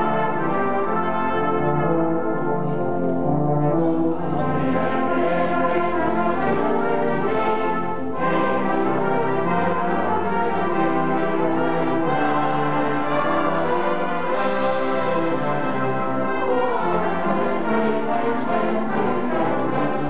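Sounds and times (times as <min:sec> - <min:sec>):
brass band playing chords: 0:00.0 - 0:20.0.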